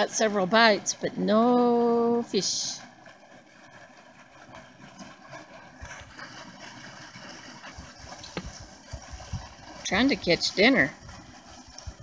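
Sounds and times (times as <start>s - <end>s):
fountain splashing: 0.0s - 12.0s.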